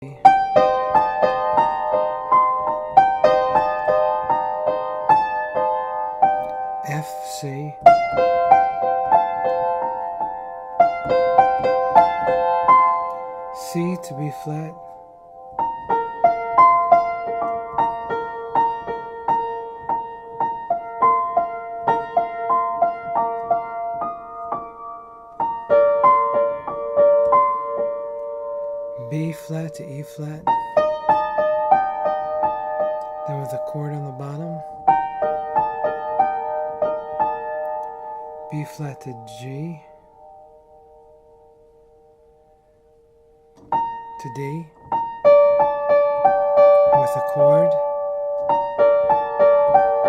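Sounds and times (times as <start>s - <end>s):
piano keyboard melody: 0.0s - 50.0s.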